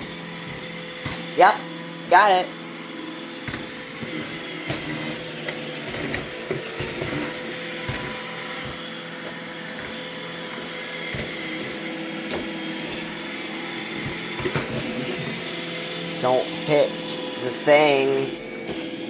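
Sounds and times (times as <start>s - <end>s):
robot vacuum motor hum: 0.0s - 19.0s.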